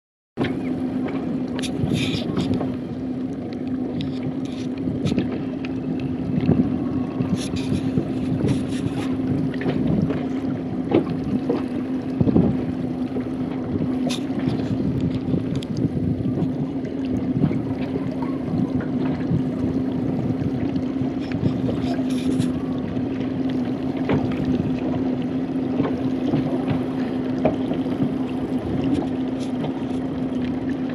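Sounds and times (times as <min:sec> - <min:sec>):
boat engine droning: 0:00.4 - 0:30.9
water splashing against hull: 0:00.4 - 0:30.9
wind on microphone: 0:00.4 - 0:30.9.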